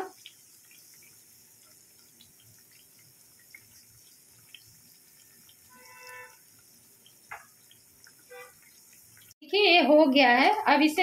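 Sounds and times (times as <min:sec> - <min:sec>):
small ticks and pops: 0:00.0 - 0:09.4
cakes deep-frying in oil: 0:00.0 - 0:11.0.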